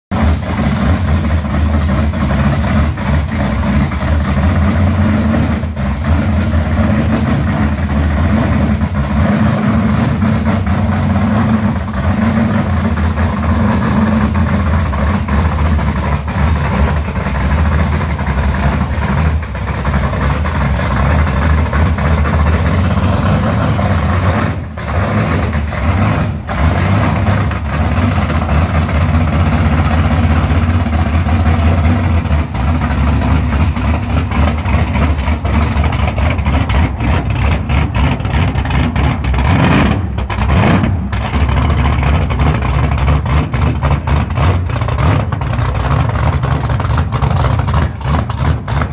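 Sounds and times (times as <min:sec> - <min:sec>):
car engine idling: 0:00.1 - 0:48.9.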